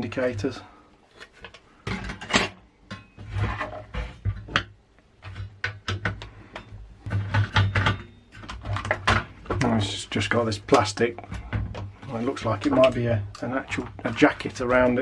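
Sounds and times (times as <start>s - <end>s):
plastic and metal parts rattling: 0.2s - 15.0s.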